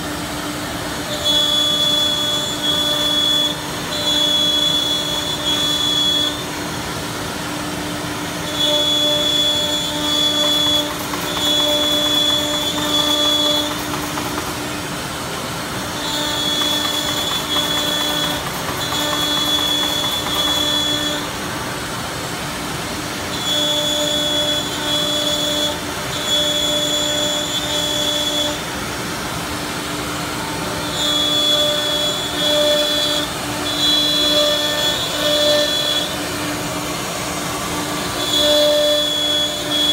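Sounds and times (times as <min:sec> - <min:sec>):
router high-pitched whine: 0:00.0 - 0:39.9.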